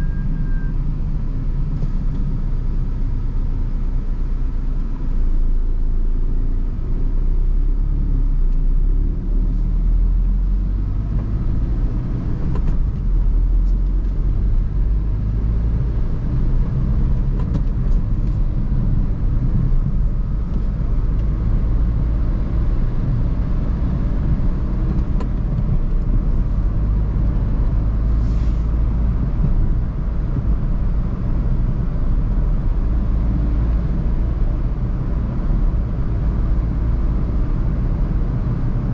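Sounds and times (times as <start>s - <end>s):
car driving road and engine noise: 0.0s - 38.9s.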